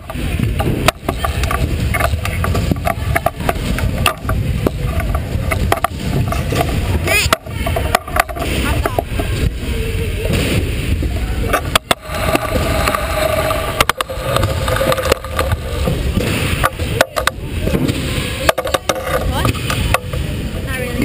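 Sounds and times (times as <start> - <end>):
scooter wheels rumbling on wood: 0.0 - 21.0.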